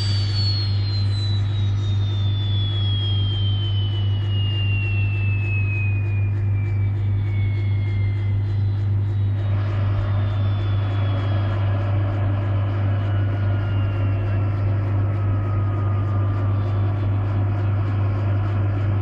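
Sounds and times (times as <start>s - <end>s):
helicopter turbine whine winding down: 0.0s - 19.0s
steady low hum: 0.0s - 19.0s.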